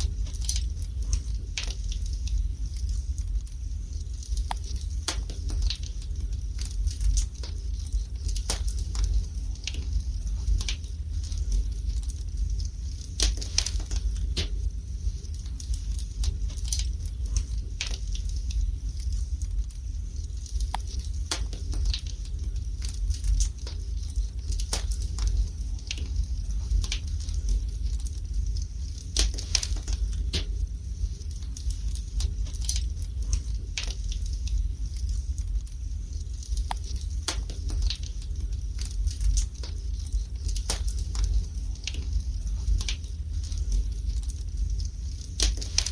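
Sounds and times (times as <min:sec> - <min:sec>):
low steady rumble: 0:00.0 - 0:45.9
wood fire crackling and popping: 0:00.0 - 0:45.9.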